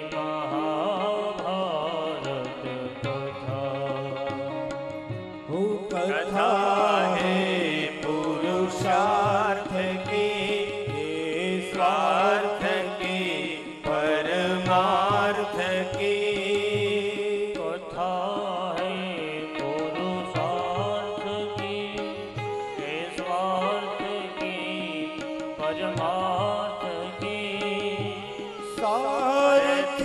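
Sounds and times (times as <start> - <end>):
harmonium chords: 0.0 - 30.0
man singing devotional song: 0.0 - 30.0.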